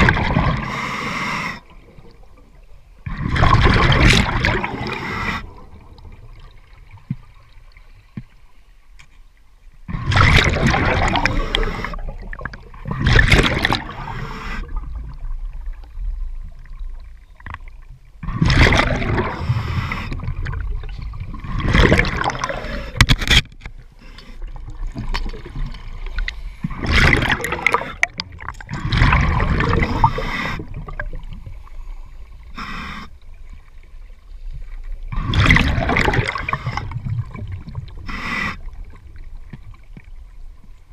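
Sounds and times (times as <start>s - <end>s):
underwater exhaled bubbles rushing: 0.0s - 7.5s, 9.9s - 23.1s, 24.4s - 32.3s, 33.3s - 40.3s.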